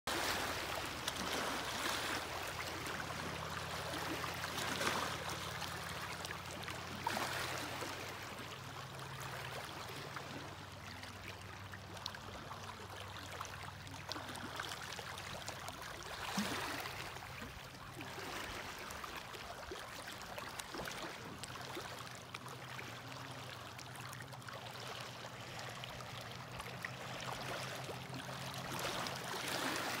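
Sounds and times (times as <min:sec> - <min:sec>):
faint low engine hum: 0:00.1 - 0:30.0
water splashes: 0:00.1 - 0:30.0
waves lapping on rocky shore: 0:00.1 - 0:30.0.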